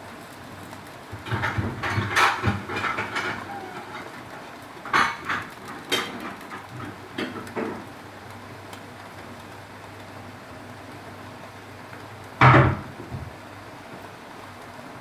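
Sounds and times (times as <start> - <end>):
fish grilling pops and crackles: 0.0 - 14.7.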